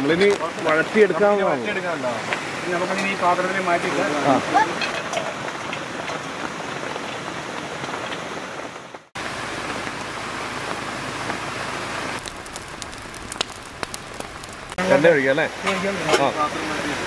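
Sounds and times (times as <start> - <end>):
heavy rain: 0.0 - 17.0
running stream water: 0.0 - 17.0.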